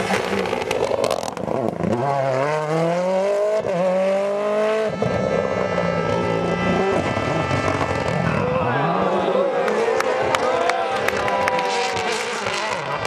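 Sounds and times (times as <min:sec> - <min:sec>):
rally car accelerating hard: 0:00.0 - 0:13.0.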